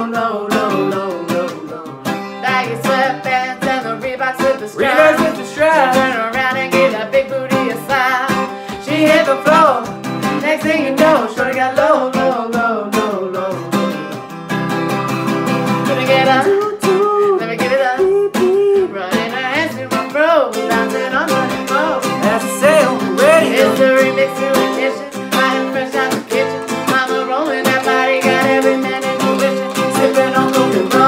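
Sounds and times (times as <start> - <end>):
person singing: 0.0 - 14.2, 15.8 - 31.0
acoustic guitar strumming: 0.0 - 31.0.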